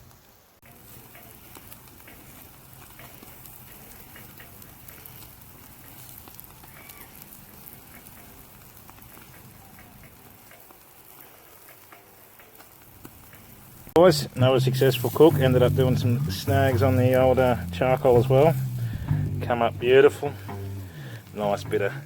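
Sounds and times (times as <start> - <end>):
meat sizzling on coals: 0.0 - 22.0.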